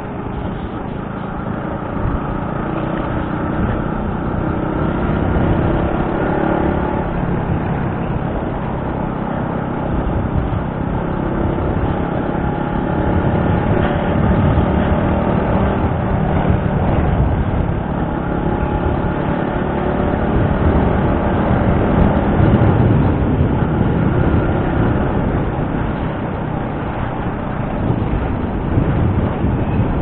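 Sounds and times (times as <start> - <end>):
motorcycle engine: 0.0 - 30.0
wind noise on microphone: 0.0 - 30.0.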